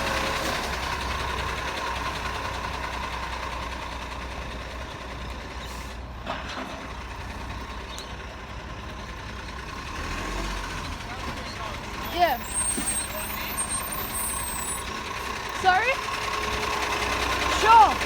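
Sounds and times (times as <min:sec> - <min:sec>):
garbage truck engine humming: 0:00.0 - 0:18.0.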